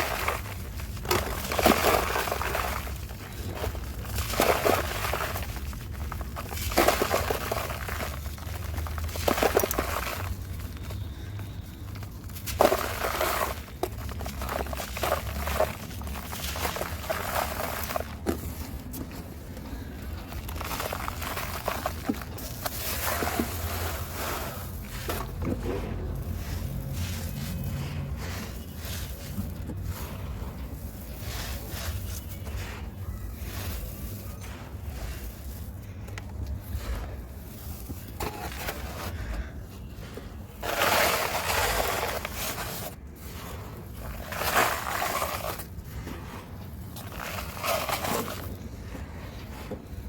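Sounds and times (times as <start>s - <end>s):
dry material crunching by hand: 0.0s - 50.0s.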